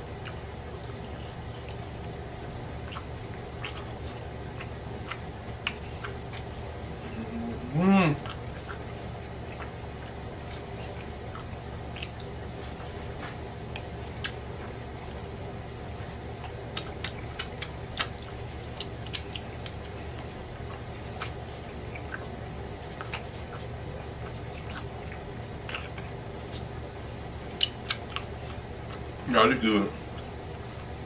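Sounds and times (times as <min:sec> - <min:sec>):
person chewing with lip smacks: 0:00.1 - 0:31.0.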